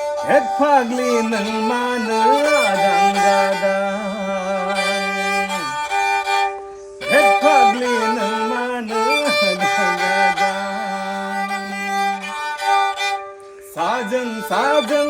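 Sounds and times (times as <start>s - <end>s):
bowed fiddle melody over drone: 0.0s - 15.0s.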